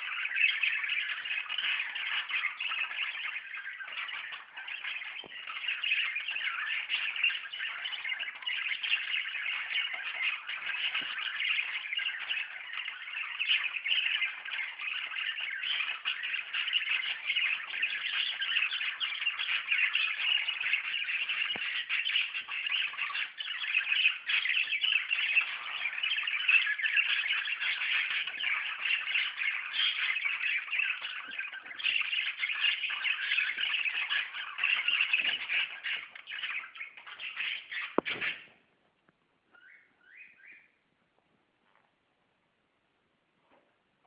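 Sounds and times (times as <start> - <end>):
budgerigars chattering: 0.0 - 38.6.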